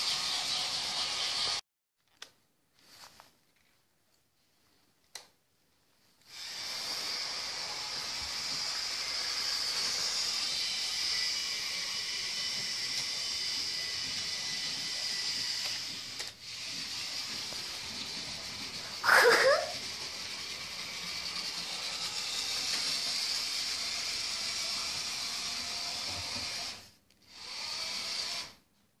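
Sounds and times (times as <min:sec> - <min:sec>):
toy train motor whirring: 0:00.0 - 0:01.6, 0:06.2 - 0:28.6.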